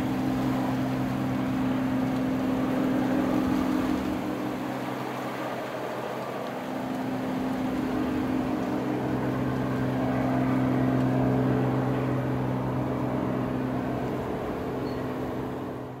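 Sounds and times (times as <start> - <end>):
helicopter drone: 0.0 - 16.0.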